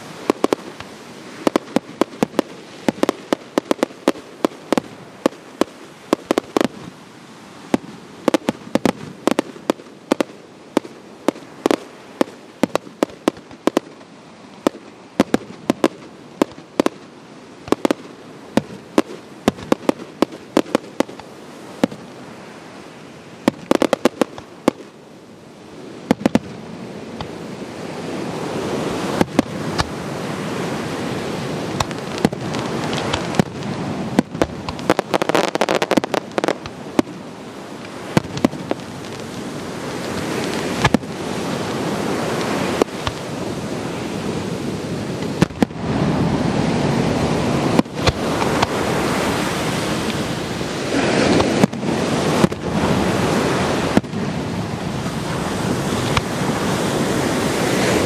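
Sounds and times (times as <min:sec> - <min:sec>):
fireworks bursting: 0:00.0 - 0:07.0, 0:07.6 - 0:22.4, 0:23.3 - 0:25.0, 0:26.0 - 0:44.2, 0:45.1 - 0:46.0, 0:47.4 - 0:52.8, 0:53.8 - 0:54.2.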